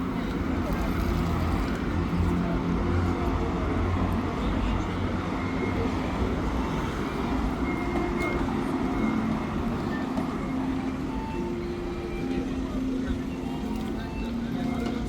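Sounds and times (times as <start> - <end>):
vehicle rumble with low hum: 0.0 - 15.0.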